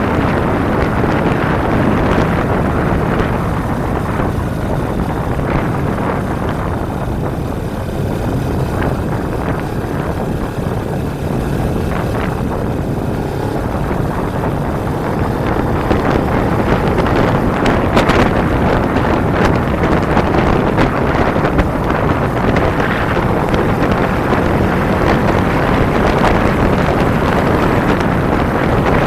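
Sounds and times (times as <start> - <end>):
motorcycle engine running at speed: 0.0 - 29.0
wind rushing over microphone: 0.0 - 29.0.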